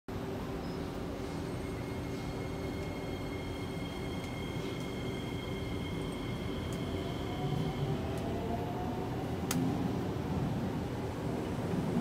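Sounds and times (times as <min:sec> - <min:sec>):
train equipment humming: 0:00.1 - 0:12.0.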